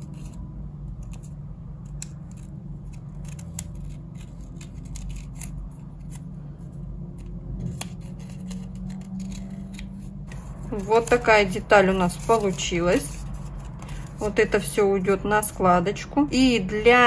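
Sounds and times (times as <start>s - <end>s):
scissors cutting paper: 0.0s - 15.2s
low steady hum: 0.0s - 17.0s.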